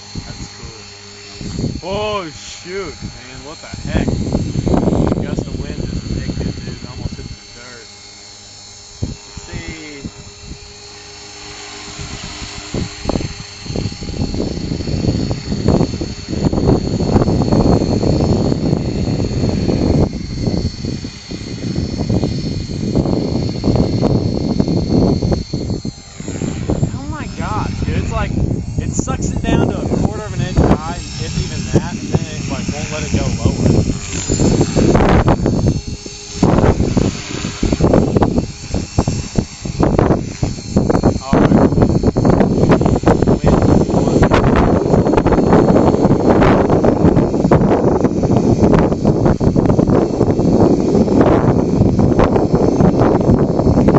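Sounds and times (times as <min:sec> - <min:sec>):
rc helicopter motor whine: 0:00.0 - 0:53.9
rotor wash buffeting microphone: 0:00.0 - 0:53.9.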